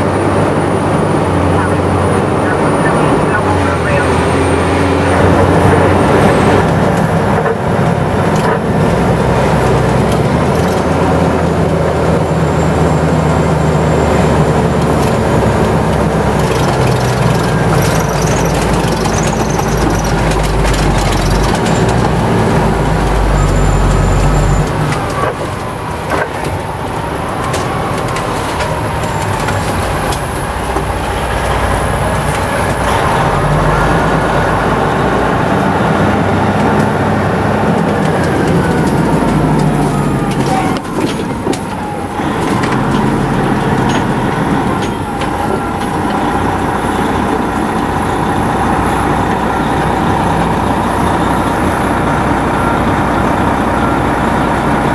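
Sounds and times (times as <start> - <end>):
heavy truck engine running: 0.0 - 54.9
vehicle engine and road noise: 0.0 - 54.9.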